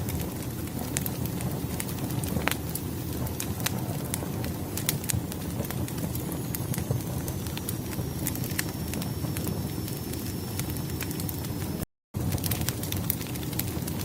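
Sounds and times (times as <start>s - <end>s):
low steady rumble: 0.0s - 14.0s
wood fire crackling and popping: 0.0s - 14.0s.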